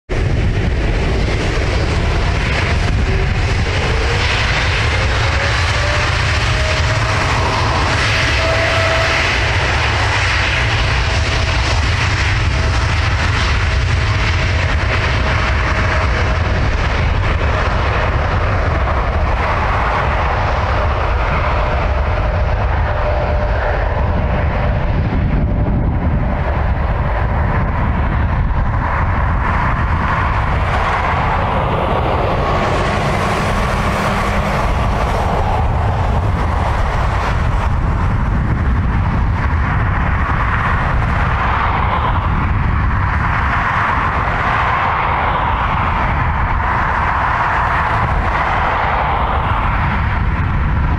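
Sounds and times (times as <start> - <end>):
jet engines roaring at takeoff: 0.1 - 50.9.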